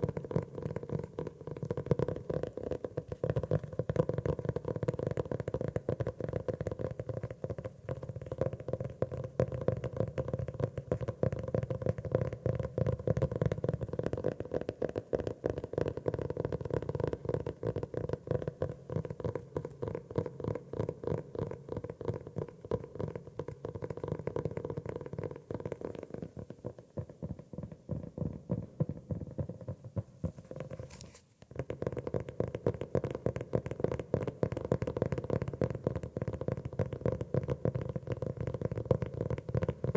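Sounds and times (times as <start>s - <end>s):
fingers tapping on a notebook cover: 0.0s - 39.9s.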